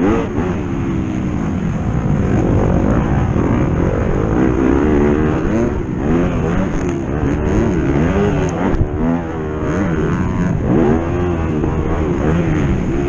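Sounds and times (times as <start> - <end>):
rushing wind noise: 0.0 - 13.0
racing engine revving hard: 1.6 - 13.0.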